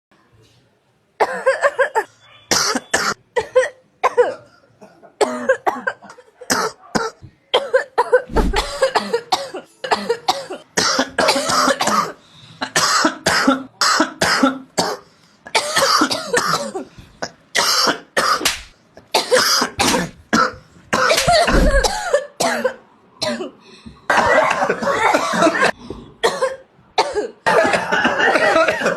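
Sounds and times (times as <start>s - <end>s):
people coughing: 1.2s - 28.9s.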